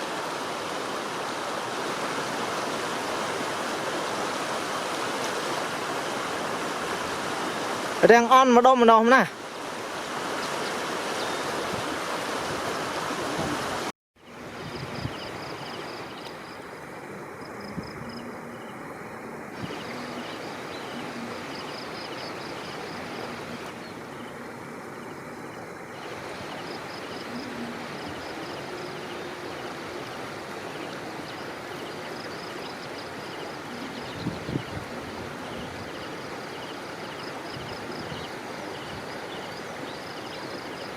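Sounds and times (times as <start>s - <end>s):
floodwater rushing: 0.0s - 40.9s.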